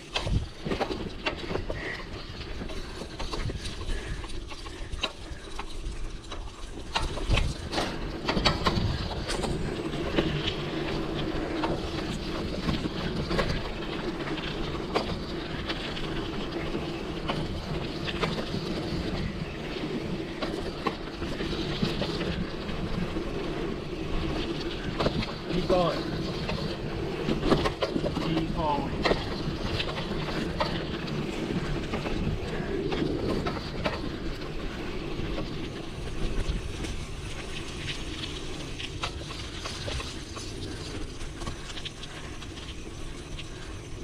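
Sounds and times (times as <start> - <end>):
bike tyres on dirt trail: 0.0 - 44.0.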